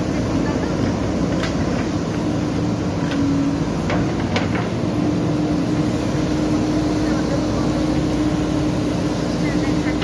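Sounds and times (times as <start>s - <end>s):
backhoe engine humming: 0.0s - 10.0s.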